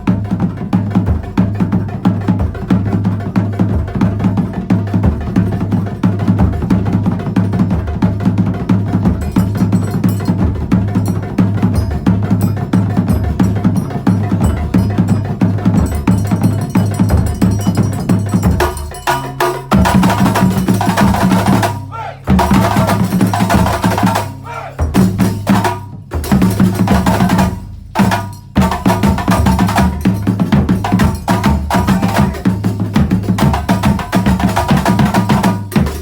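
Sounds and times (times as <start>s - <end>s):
frame drums playing rhythm: 0.0s - 36.0s.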